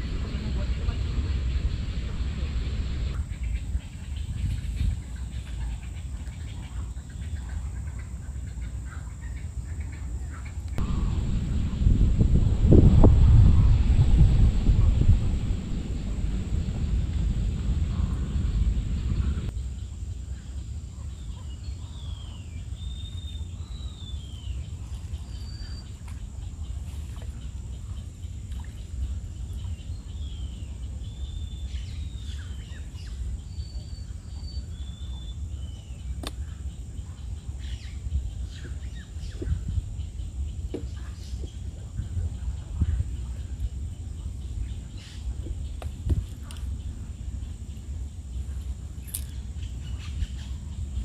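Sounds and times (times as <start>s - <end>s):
wind rumble on microphone: 0.0s - 51.0s.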